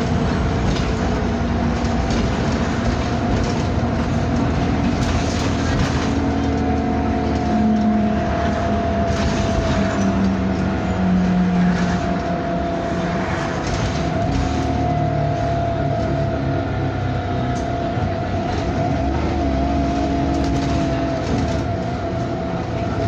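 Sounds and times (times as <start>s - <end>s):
bus drivetrain rumble: 0.0s - 23.0s.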